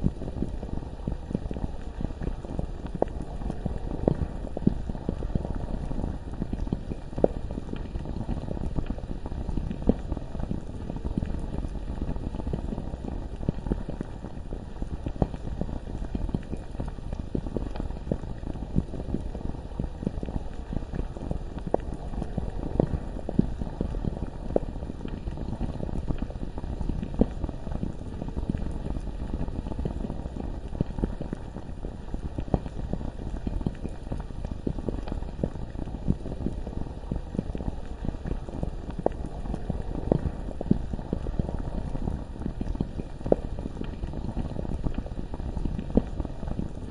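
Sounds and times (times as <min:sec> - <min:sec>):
lava bubbling and popping: 0:00.0 - 0:46.9.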